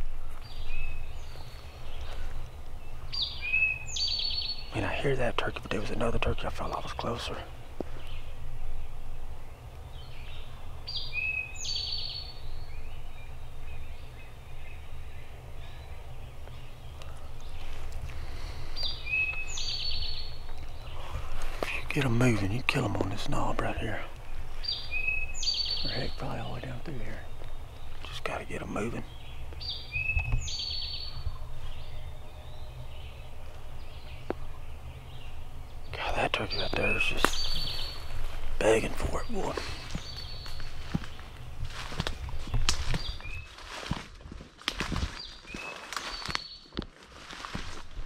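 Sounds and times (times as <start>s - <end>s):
steady low rumble: 0.0s - 45.5s
songbirds singing: 0.0s - 48.0s.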